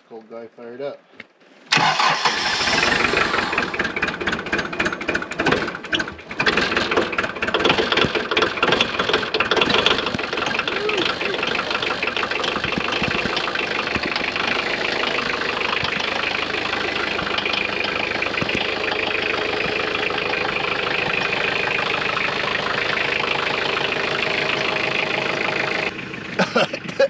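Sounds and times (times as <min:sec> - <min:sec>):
diesel engine idling: 0:01.7 - 0:27.0.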